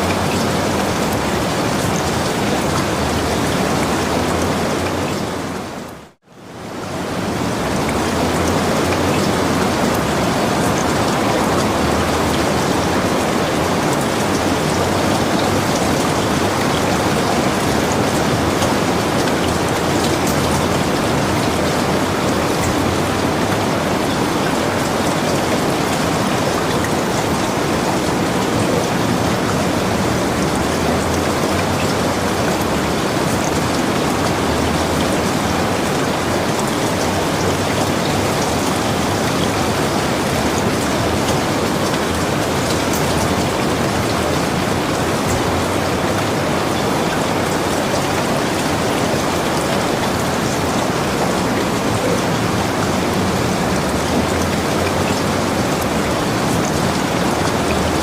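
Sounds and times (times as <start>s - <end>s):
dense rainfall: 0.0s - 58.0s.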